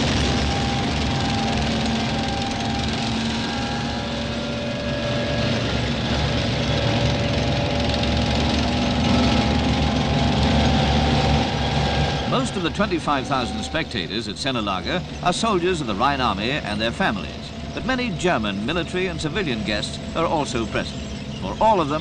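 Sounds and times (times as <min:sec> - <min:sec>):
tank engine rumble: 0:00.0 - 0:22.0.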